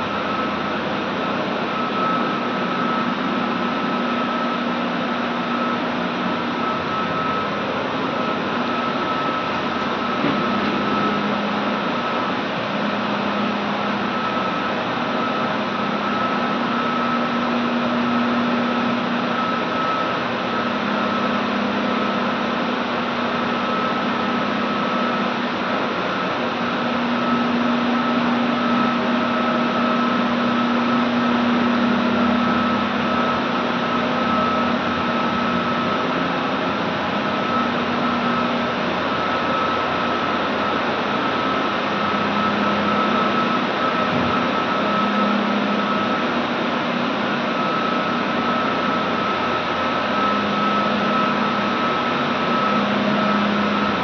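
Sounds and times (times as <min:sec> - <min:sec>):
high whine: 0:00.0 - 0:54.0
steam boiler mechanical roar: 0:00.0 - 0:54.0.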